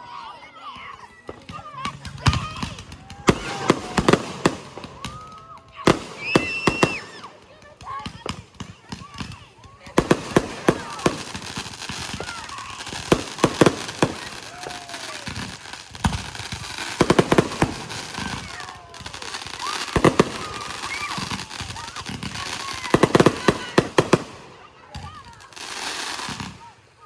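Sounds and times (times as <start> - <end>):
firecrackers crackling: 0.1 - 27.0
fireworks bangs: 0.1 - 27.0.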